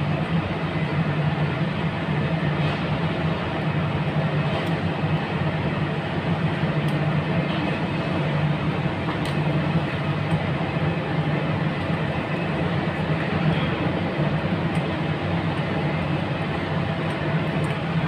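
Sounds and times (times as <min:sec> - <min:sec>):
machinery humming and rumbling: 0:00.0 - 0:18.0.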